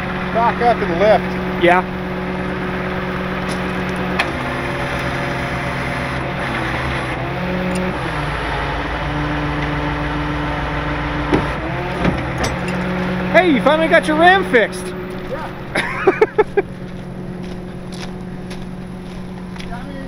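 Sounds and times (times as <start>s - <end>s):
truck engine and hydraulics running: 0.0s - 20.0s.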